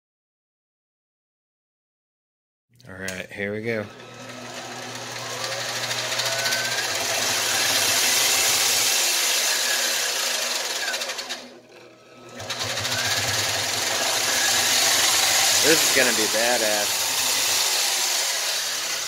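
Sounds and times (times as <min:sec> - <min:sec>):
small lathe running: 0:03.7 - 0:19.0.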